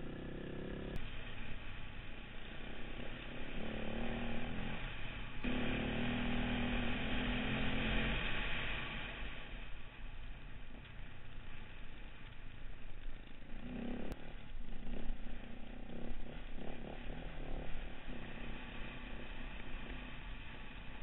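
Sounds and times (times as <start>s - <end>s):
motorcycle engine running: 0.0s - 21.0s
noisy rush of riding: 0.0s - 21.0s.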